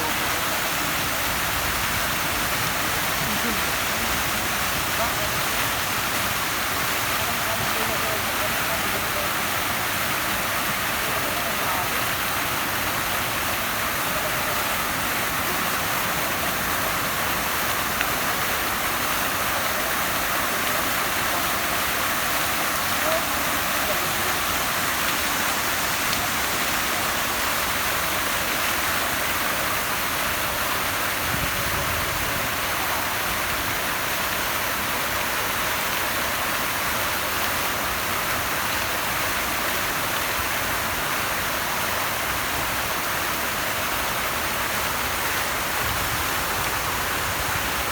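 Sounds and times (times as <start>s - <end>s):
rushing water: 0.0s - 47.9s.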